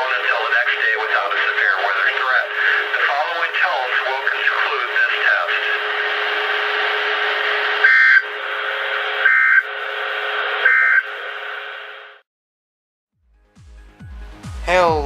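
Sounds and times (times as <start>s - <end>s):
radio hiss: 0.0s - 12.2s.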